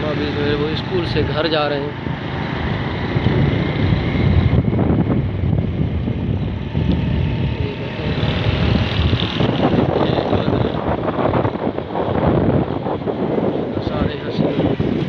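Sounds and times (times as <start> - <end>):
vehicle running noise: 0.0 - 15.0
wind buffeting microphone: 0.0 - 15.0.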